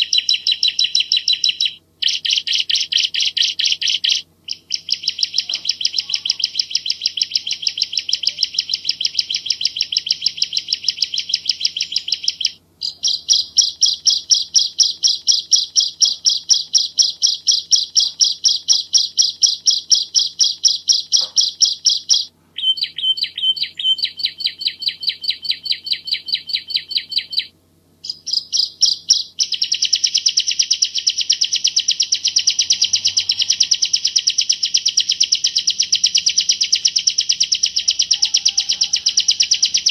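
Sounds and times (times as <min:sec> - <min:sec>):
bird singing rapid sharp notes: 0:00.0 - 0:39.9.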